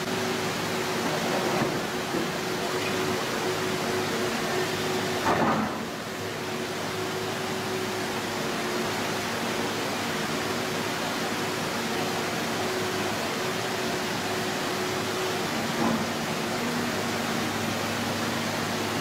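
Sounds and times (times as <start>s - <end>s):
distant excavator engine drone: 0.0s - 19.0s.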